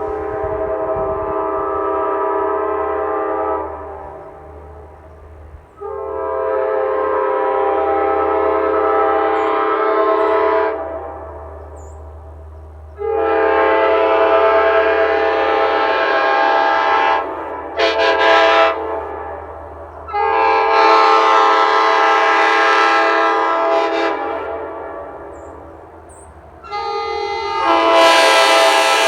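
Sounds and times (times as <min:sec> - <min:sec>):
train horn blasts: 0:00.0 - 0:29.0.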